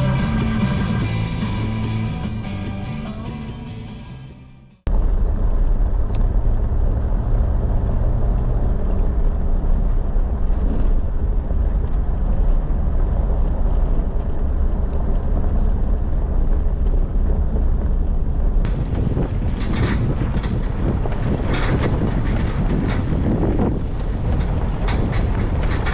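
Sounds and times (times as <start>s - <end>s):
engine and tyres on gravel: 0.0s - 3.2s, 4.9s - 25.9s
low hum: 0.0s - 25.9s.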